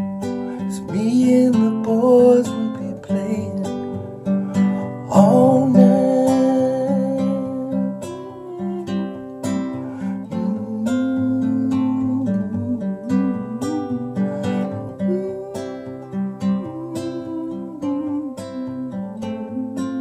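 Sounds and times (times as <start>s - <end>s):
classical guitar playing: 0.0s - 20.0s.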